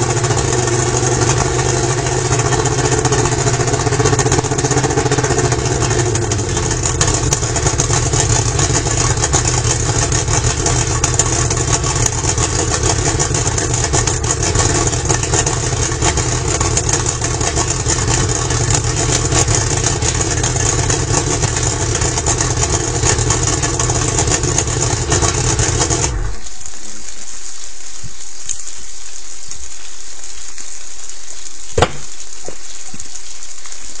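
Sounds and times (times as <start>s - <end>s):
outboard motor idling: 0.0s - 26.6s, 31.8s - 33.0s
hiss of running water: 0.0s - 34.0s.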